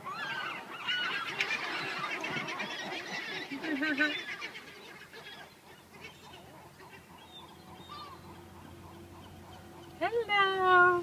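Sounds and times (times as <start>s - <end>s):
seagulls calling: 0.0s - 11.0s.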